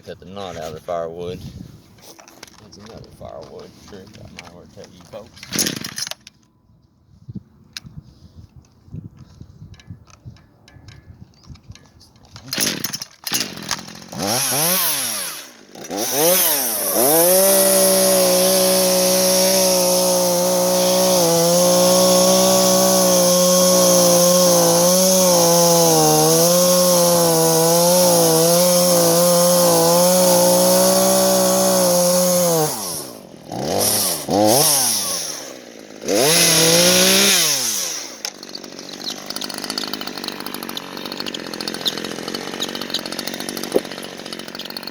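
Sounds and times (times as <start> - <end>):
chainsaw revving and cutting wood: 2.4 - 6.2, 12.4 - 44.9.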